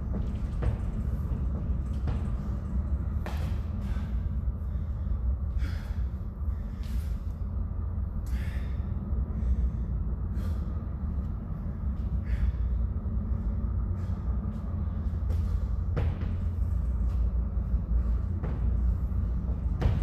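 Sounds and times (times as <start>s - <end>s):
steady low rumble: 0.0s - 20.0s
person breathing heavily: 3.4s - 19.8s.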